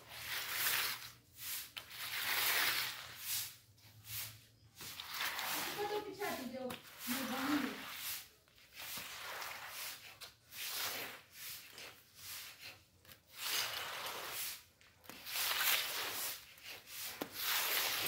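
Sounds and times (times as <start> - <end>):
floor cleaner scraping wet concrete: 0.0 - 18.0.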